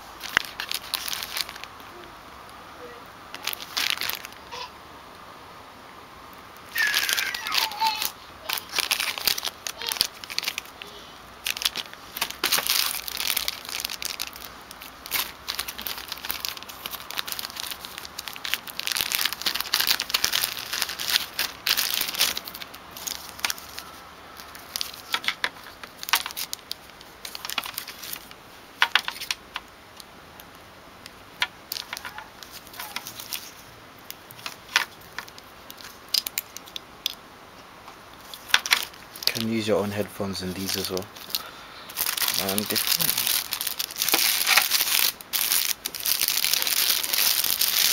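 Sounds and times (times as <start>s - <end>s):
plastic bags crinkling: 0.0s - 1.8s, 3.3s - 4.7s, 6.6s - 29.7s, 31.3s - 37.2s, 38.2s - 47.9s.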